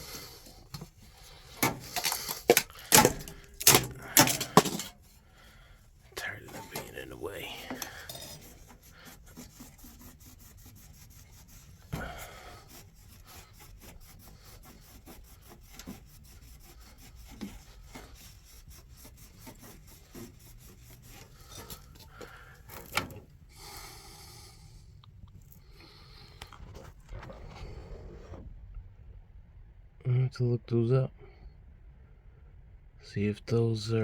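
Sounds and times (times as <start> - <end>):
computer parts rubbing and scraping: 0.0 - 28.6.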